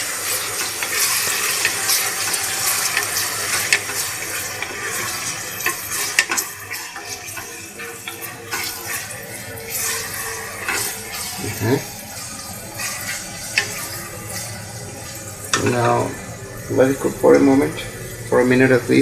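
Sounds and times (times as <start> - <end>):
meat sizzling in oil: 0.0 - 19.0
wooden spoon scraping pot: 0.4 - 16.2.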